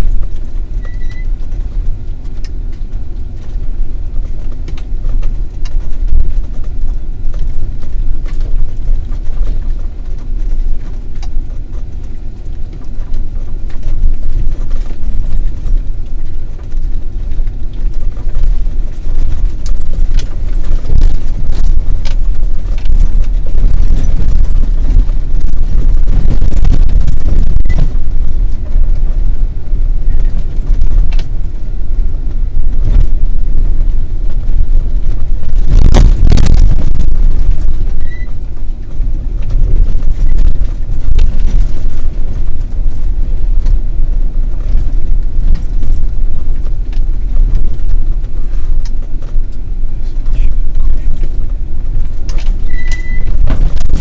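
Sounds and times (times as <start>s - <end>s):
vehicle engine and tyres rumbling: 0.0s - 54.0s
vehicle jolting over bumps: 0.0s - 54.0s.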